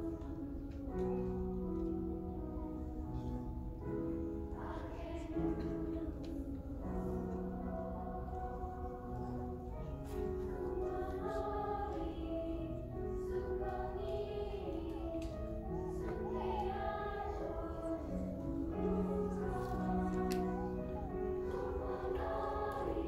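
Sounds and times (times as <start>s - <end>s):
grand piano accompaniment: 0.0s - 23.0s
youth choir singing in parts: 4.2s - 23.0s.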